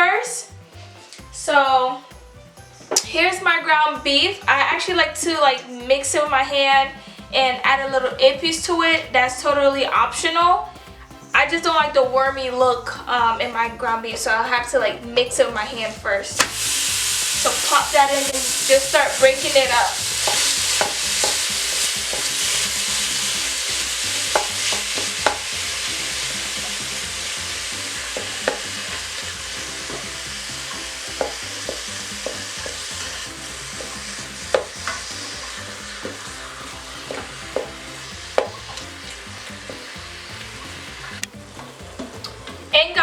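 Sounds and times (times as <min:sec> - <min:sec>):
ground beef sizzling: 0:00.0 - 0:43.0
utensil scraping a pot: 0:02.7 - 0:42.9.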